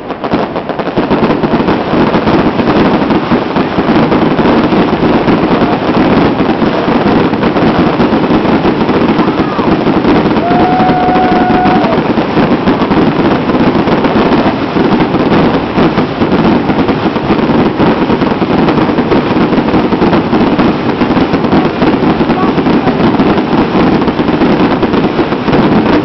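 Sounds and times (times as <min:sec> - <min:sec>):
firework whistle: 0:00.0 - 0:26.0
fireworks bangs and crackles: 0:00.0 - 0:26.0.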